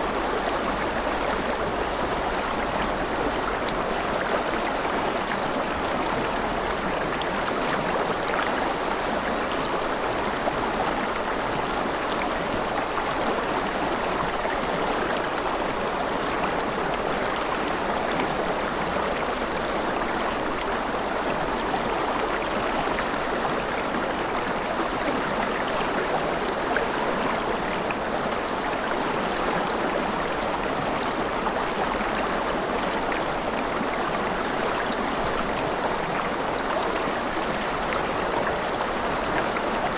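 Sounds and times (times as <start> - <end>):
river water flowing and splashing: 0.0 - 39.9.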